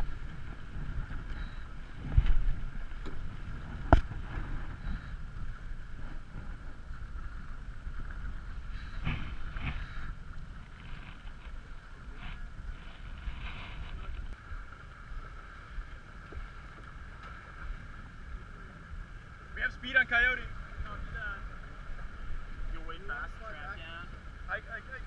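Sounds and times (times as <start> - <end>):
boat rushing through water: 0.0 - 25.0
wind buffeting microphone: 0.0 - 25.0.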